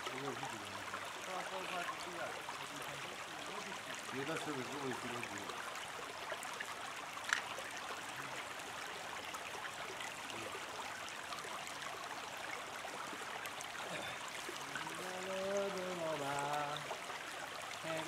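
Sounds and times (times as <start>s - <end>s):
creek water over rocks: 0.0s - 18.0s.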